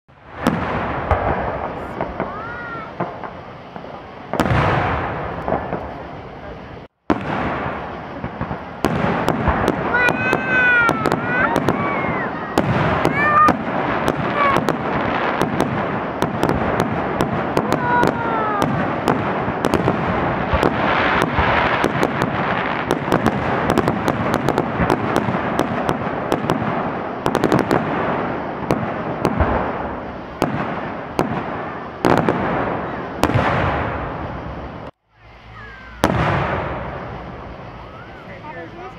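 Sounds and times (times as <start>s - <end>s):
firework bangs: 0.1s - 38.9s
firework crackle: 0.1s - 38.9s.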